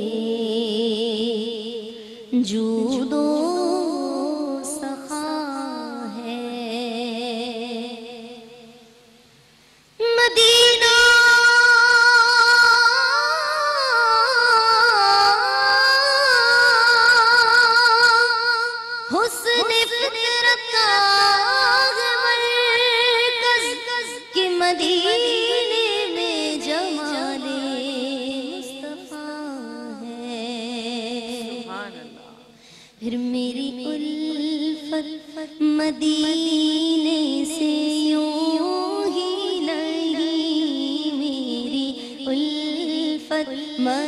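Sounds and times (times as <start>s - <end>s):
woman singing into a microphone: 0.0s - 9.2s, 10.0s - 44.0s.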